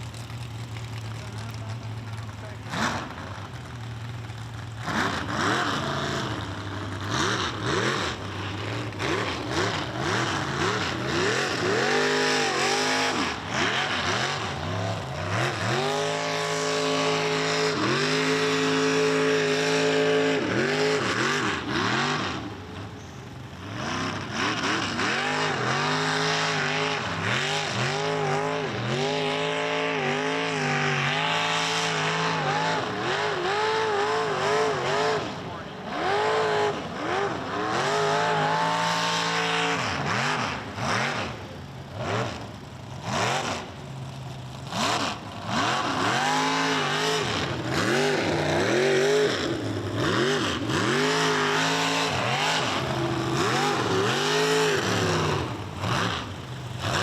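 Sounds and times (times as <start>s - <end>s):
truck engine revving hard: 1.1s - 22.9s, 23.5s - 57.0s.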